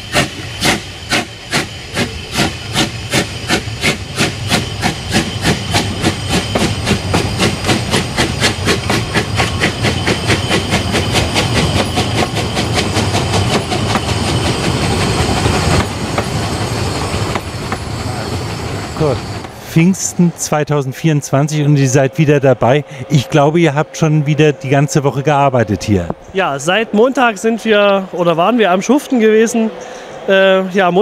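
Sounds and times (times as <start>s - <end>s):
steam locomotive chuffing: 0.0s - 31.0s
train rumbling: 0.0s - 31.0s.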